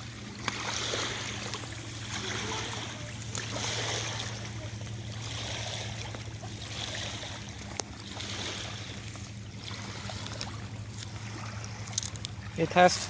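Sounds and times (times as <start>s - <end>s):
steady low hum: 0.0s - 13.0s
water washing: 0.0s - 13.0s.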